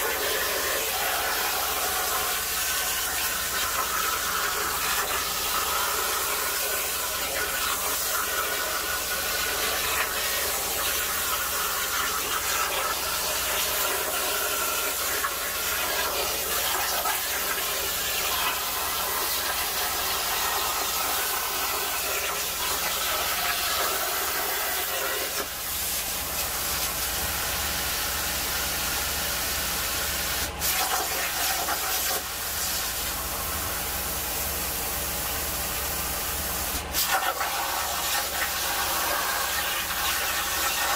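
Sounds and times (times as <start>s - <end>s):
plasma torch hissing: 0.0s - 27.2s, 29.2s - 33.2s, 36.4s - 40.9s.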